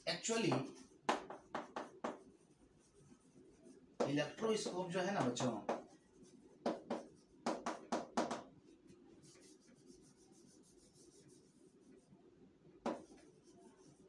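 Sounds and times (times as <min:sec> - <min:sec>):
chalk scratching on chalkboard: 0:00.2 - 0:12.1, 0:12.8 - 0:14.0.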